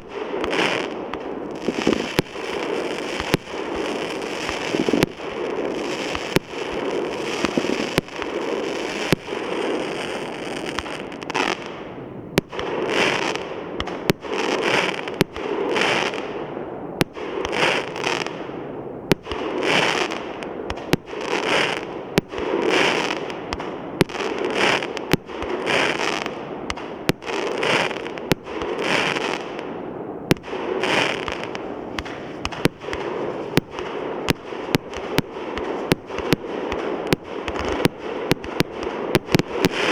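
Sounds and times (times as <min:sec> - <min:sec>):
crackling hiss of fireworks: 0:00.0 - 0:39.9
fireworks reports: 0:00.0 - 0:39.9.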